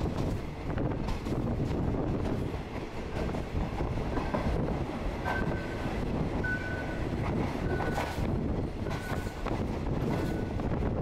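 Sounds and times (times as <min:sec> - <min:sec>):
train carriage rumbling on track: 0:00.0 - 0:11.0
wind buffeting microphone: 0:00.0 - 0:11.0.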